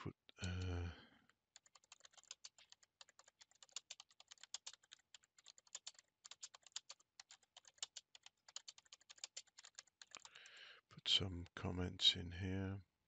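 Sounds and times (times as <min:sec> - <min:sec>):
faint rapid keyboard typing: 0:00.4 - 0:11.7.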